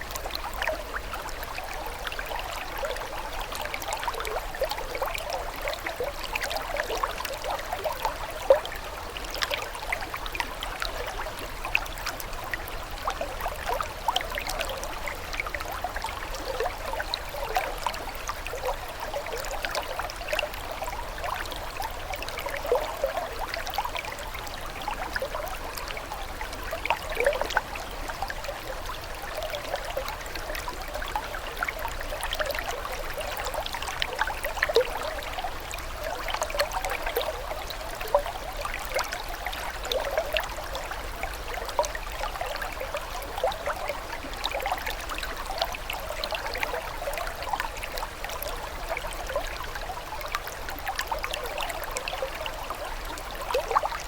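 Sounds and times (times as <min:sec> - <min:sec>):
water trickling and gurgling: 0:00.0 - 0:54.0.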